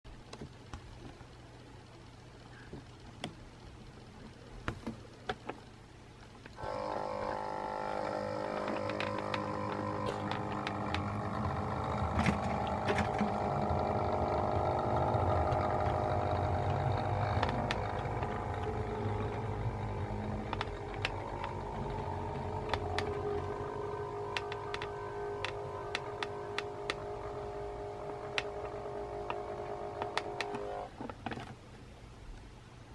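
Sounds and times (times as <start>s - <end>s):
model train mechanical hum: 0.2s - 31.0s.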